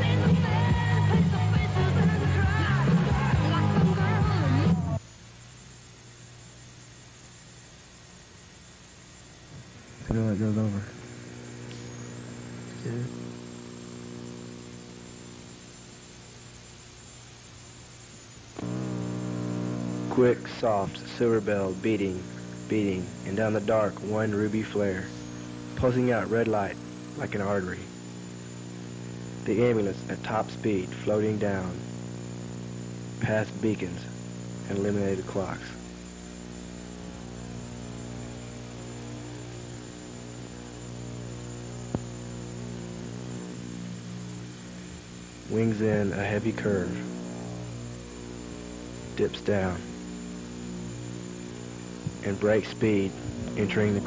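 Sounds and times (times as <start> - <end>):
electrical mains hum: 0.0 - 54.0
faint high whine: 0.0 - 54.0.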